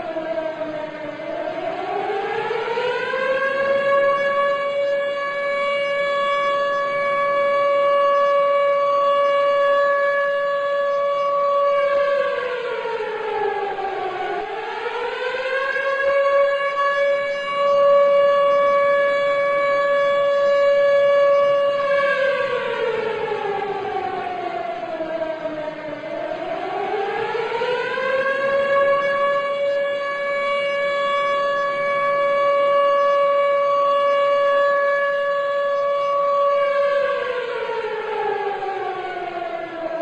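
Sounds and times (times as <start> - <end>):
civil defence siren: 0.0 - 40.0.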